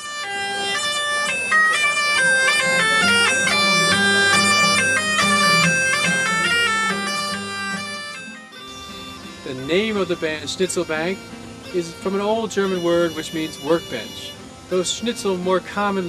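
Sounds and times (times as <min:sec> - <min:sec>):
bagpipe folk melody with drone: 0:00.0 - 0:16.0.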